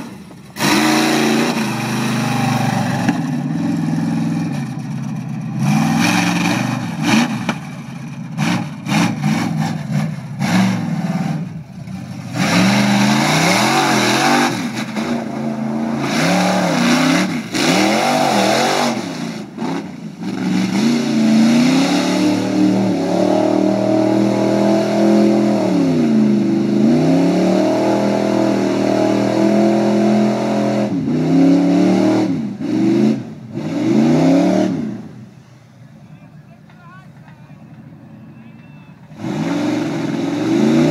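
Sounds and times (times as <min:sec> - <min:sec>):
truck engine revving hard: 0:00.0 - 0:35.3, 0:39.0 - 0:40.9.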